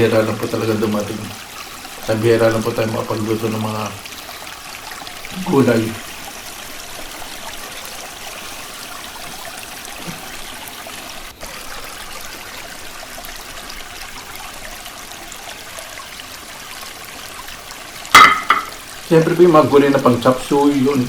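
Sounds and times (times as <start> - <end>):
creek water trickling: 0.0 - 21.0.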